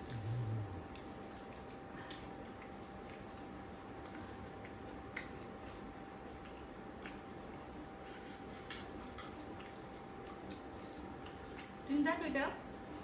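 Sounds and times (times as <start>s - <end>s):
eating clicks and mouth noises: 0.0s - 13.0s
faint steady hum: 0.0s - 13.0s.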